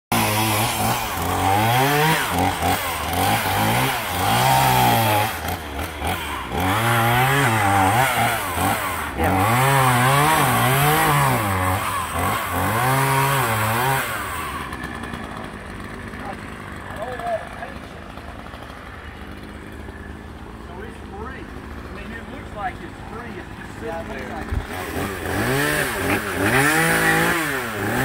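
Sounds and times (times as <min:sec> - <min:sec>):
chainsaw cutting wood: 0:00.1 - 0:28.0.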